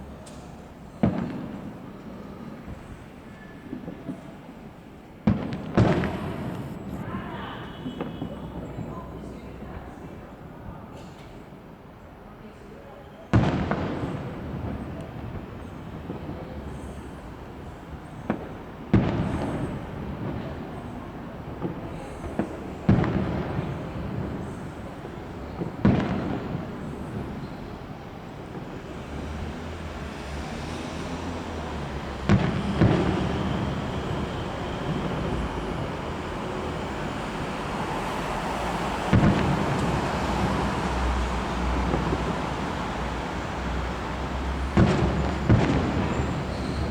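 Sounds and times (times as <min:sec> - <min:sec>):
fireworks booming: 0:00.0 - 0:10.0, 0:13.3 - 0:46.9
background noise: 0:00.0 - 0:46.9.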